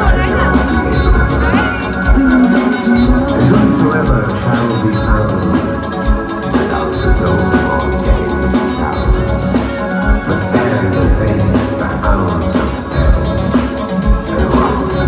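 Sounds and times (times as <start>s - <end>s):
live dance-band music: 0.0s - 15.0s
steady drum beat: 0.0s - 15.0s.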